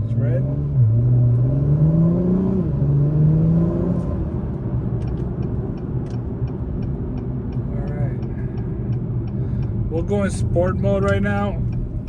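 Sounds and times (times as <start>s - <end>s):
car engine accelerating: 0.0s - 12.0s
road hum: 0.0s - 12.0s.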